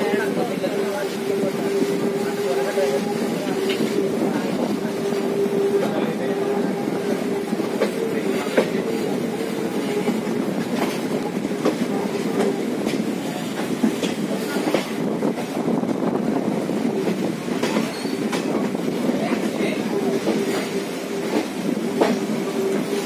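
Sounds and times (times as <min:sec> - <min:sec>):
train wheels rumbling on rail: 0:00.0 - 0:23.0
rail joint clicks: 0:00.7 - 0:23.0.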